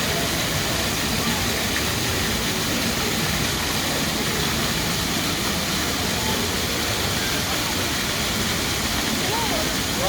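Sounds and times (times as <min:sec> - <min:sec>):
water fountain spraying: 0:00.0 - 0:10.0.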